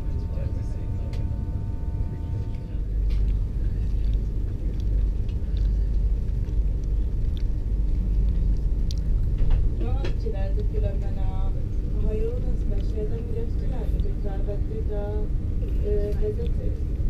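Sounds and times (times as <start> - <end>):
train coach rumble: 0.0 - 17.0.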